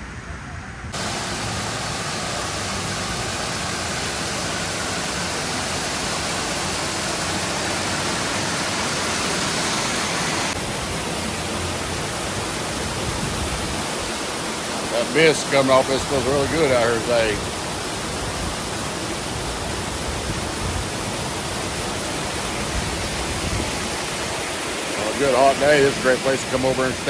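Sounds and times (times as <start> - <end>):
fountain water splashing: 0.8 - 27.0.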